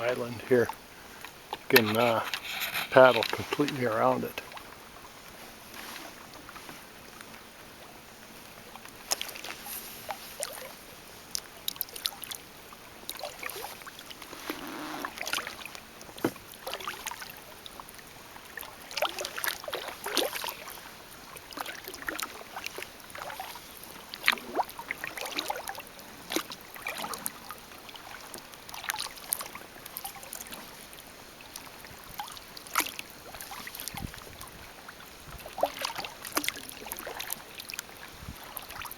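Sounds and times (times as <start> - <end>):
paddle splashes and drips: 0.0 - 38.9.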